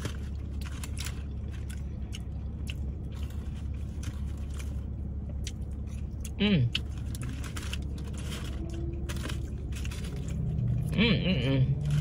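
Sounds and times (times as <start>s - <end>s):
biting and chewing seafood: 0.0s - 12.0s
low hum: 0.0s - 12.0s.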